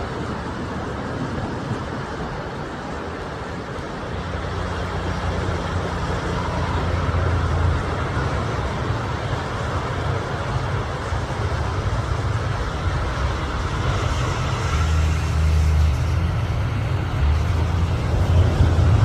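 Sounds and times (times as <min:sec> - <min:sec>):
steady rushing background: 0:00.0 - 0:19.0
vehicle engine and tyre rumble: 0:00.0 - 0:19.0.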